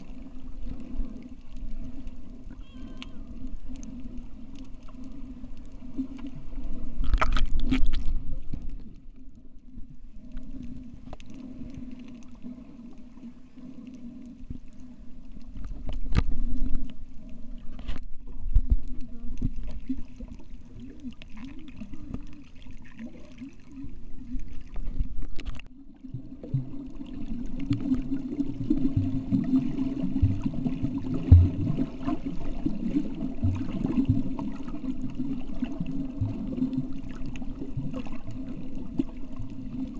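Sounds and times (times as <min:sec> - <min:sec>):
underwater rumble: 0:00.0 - 0:39.9.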